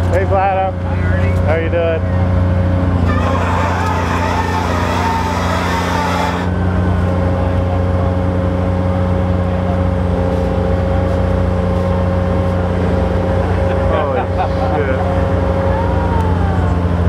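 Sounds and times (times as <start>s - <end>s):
machine engine drone: 0.6s - 17.0s.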